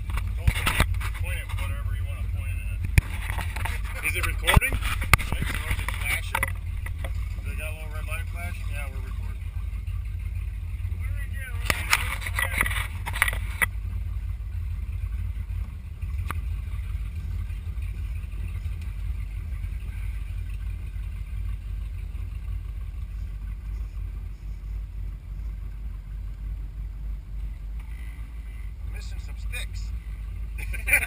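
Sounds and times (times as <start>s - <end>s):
motorboat engine rumbling: 0.0s - 31.0s.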